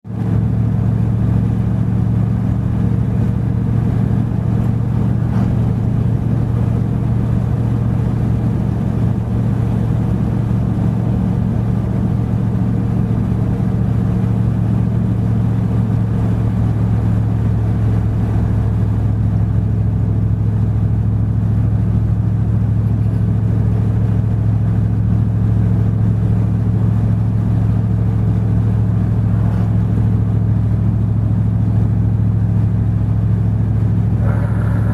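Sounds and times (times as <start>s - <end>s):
truck engine droning: 0.1s - 34.9s.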